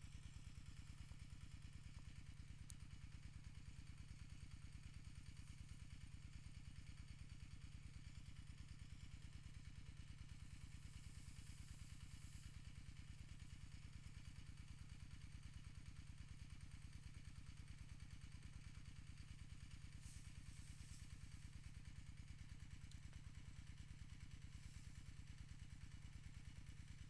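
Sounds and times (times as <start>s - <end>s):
small engine idling: 0.0s - 27.0s.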